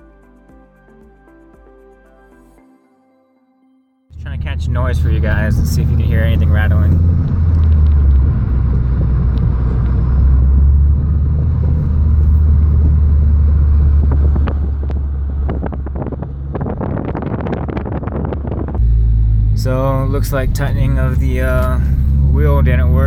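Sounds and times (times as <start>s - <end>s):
road and drivetrain rumble: 4.1s - 23.0s
suspension rattling clunks: 4.2s - 23.0s.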